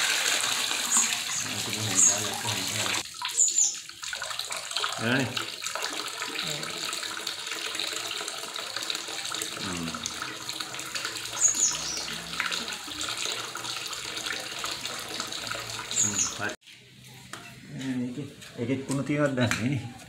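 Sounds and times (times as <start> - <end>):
water splashing into a bucket: 0.0 - 16.6.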